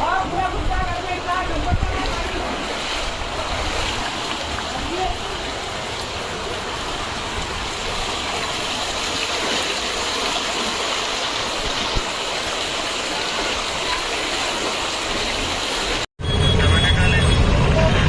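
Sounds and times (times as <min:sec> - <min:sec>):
heavy rain: 0:00.0 - 0:16.1
running water: 0:00.0 - 0:16.1.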